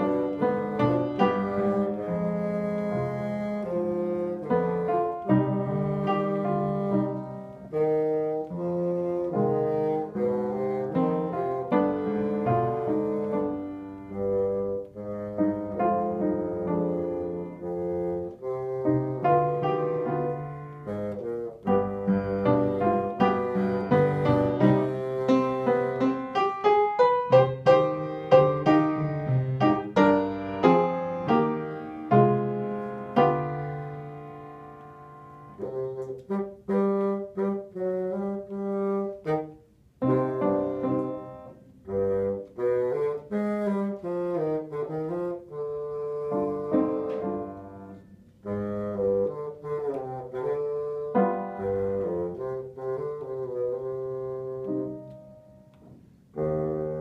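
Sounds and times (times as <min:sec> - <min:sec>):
bassoon playing held notes: 0:00.0 - 0:57.0
piano accompaniment: 0:00.0 - 0:57.0.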